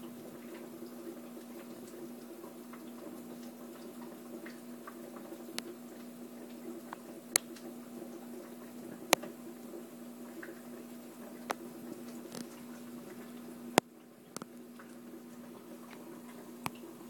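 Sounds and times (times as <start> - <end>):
aquarium equipment humming: 0.0 - 17.0
faint watery sounds: 0.0 - 17.0.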